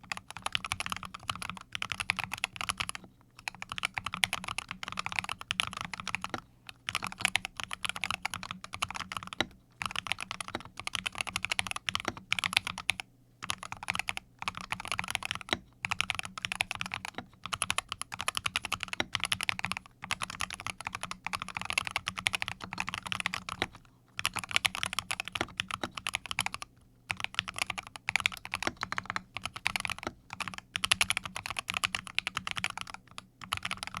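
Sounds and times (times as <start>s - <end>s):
fast keyboard typing: 0.0s - 34.0s.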